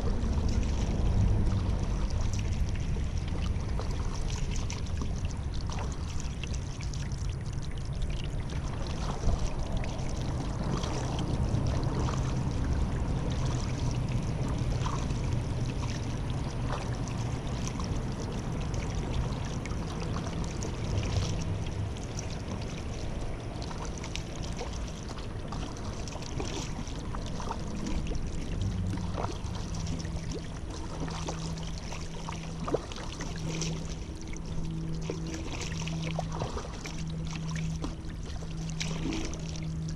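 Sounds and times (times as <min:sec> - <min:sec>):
low steady hum: 0:00.0 - 0:39.9
paddle splashing in water: 0:00.0 - 0:39.9.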